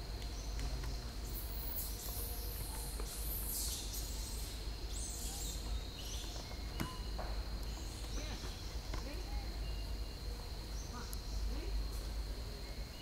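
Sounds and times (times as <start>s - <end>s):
high insect tone: 0.0s - 13.0s.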